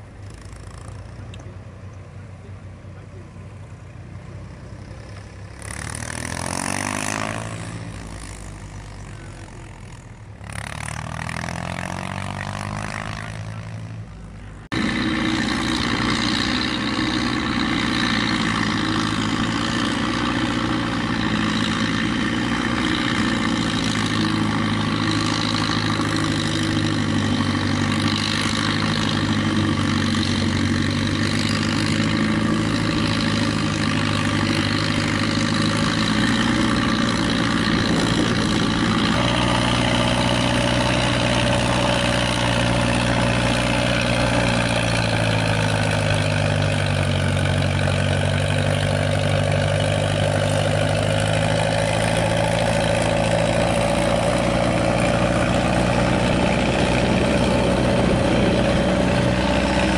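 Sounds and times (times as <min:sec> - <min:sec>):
tractor engines droning: 0:00.0 - 0:59.9
tractors passing on road: 0:00.0 - 0:59.9
tractor powering forage chopper: 0:04.7 - 0:59.9.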